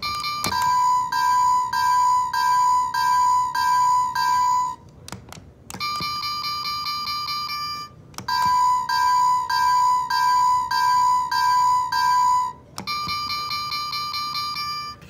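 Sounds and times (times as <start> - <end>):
electronic crossing bell chiming: 0.0 - 4.8, 5.8 - 15.0.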